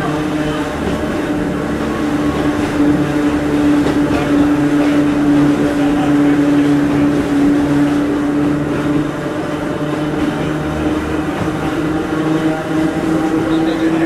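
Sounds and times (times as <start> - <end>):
traction motor whine: 0.0 - 14.0
wheels rumbling on rail: 0.0 - 14.0.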